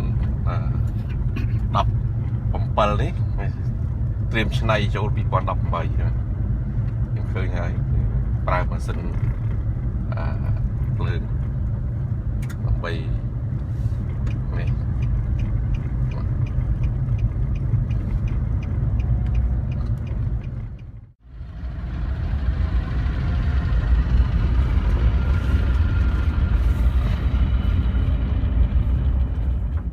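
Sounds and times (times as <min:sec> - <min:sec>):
regular engine ticking: 0:00.0 - 0:29.9
small engine rumbling: 0:00.0 - 0:29.9.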